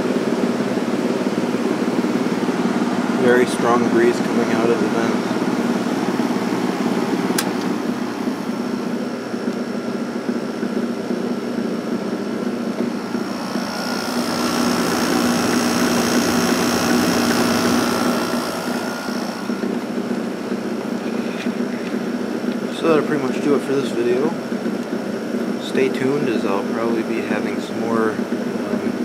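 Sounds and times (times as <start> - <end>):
high whine: 0.0 - 24.4
air conditioner humming: 0.0 - 29.0.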